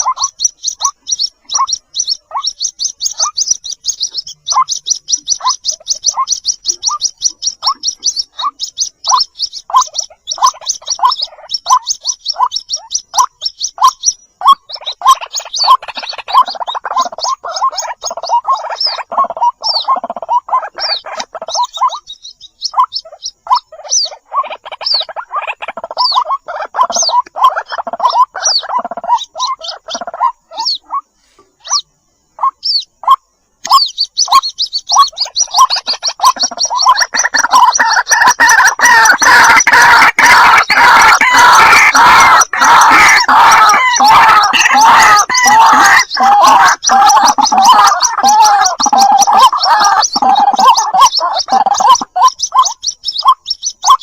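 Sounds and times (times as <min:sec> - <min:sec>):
bird chicks peeping: 0:00.0 - 0:54.0.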